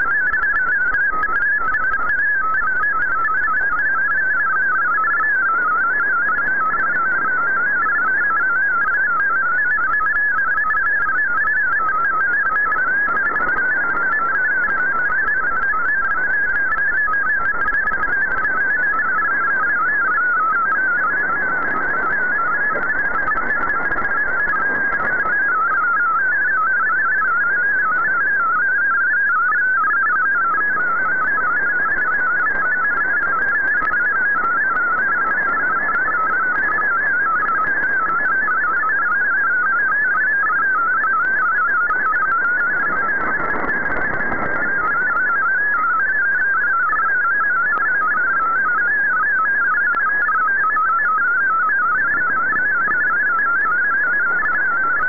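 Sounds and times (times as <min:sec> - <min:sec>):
warbling digital signal tones: 0:08.8 - 0:55.0.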